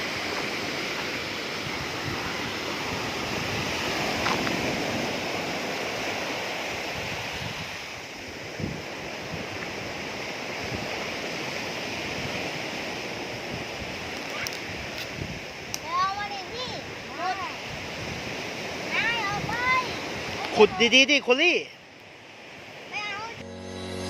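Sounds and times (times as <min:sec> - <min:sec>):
wind on microphone: 0:00.0 - 0:21.0
surf washing on a beach: 0:00.0 - 0:23.4.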